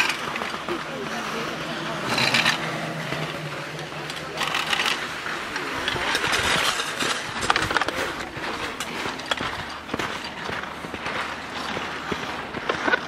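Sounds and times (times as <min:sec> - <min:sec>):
skis scraping over snow: 0:00.0 - 0:13.0.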